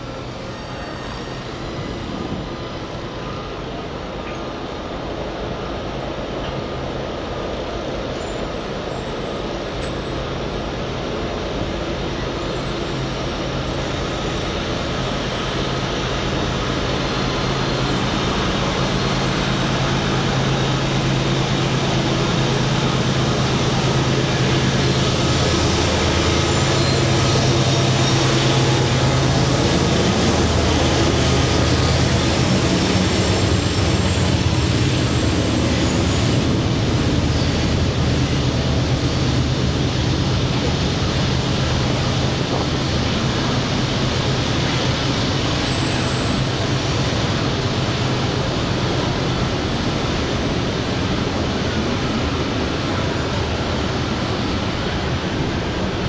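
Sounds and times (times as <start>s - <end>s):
low locomotive engine drone: 0.0s - 56.0s.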